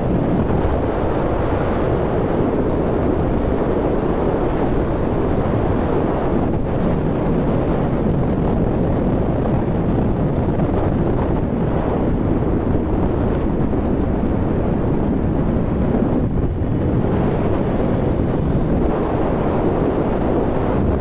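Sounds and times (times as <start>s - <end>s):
motorcycle running: 0.0s - 21.0s
wind buffeting microphone: 0.0s - 21.0s.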